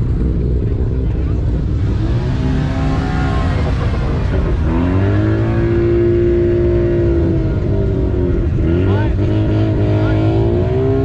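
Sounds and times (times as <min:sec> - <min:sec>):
sports car engines revving: 0:00.0 - 0:11.0.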